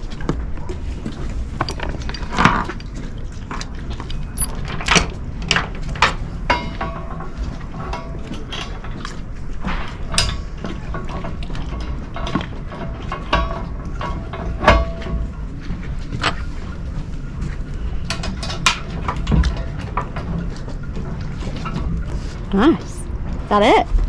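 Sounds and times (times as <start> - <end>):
steady low rumble: 0.0 - 12.8, 13.7 - 24.0.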